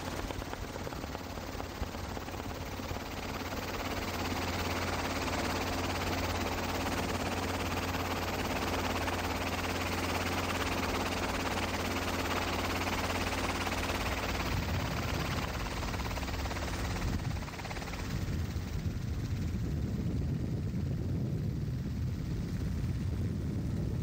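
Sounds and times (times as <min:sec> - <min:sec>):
helicopter rotor chopping: 0:00.0 - 0:24.0
low turbine hum: 0:00.0 - 0:24.0.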